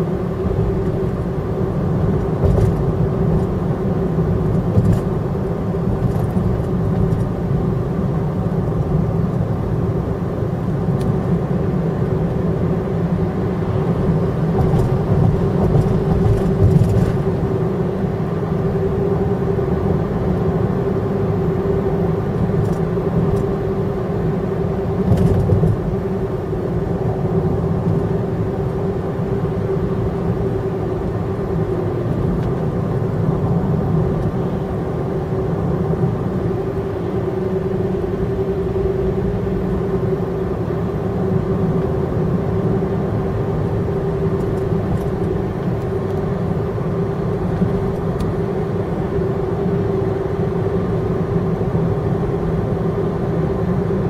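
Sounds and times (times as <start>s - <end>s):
car cabin road rumble: 0.0s - 54.0s
constant hum: 0.0s - 54.0s.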